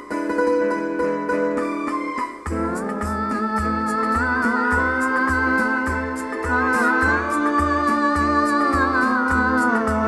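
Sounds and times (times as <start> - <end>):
plucked notes: 0.0 - 10.0.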